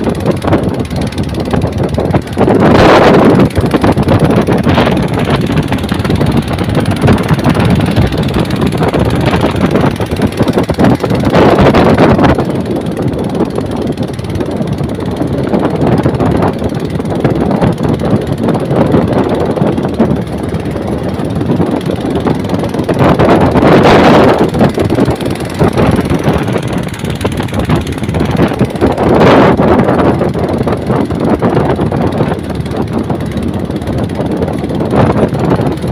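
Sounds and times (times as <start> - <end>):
motorboat engine: 0.0 - 35.9
wind buffeting microphone: 0.0 - 35.9.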